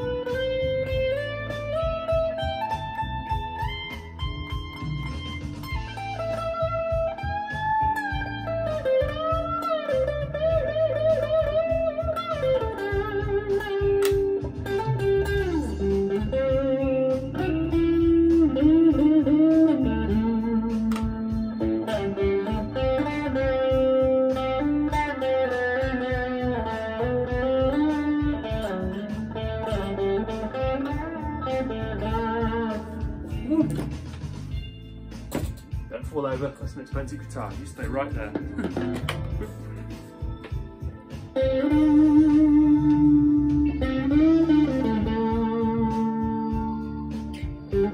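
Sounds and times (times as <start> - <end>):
bass: 0.0 - 47.9
bluesy electric guitar lead: 0.0 - 47.9
drums: 0.0 - 47.9.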